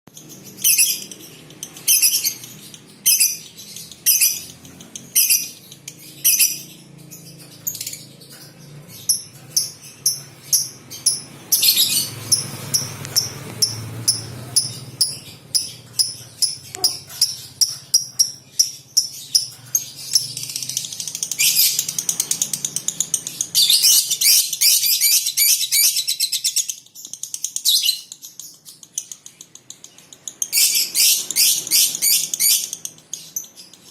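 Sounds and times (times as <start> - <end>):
lovebird chirping and trilling: 0.1 - 33.9.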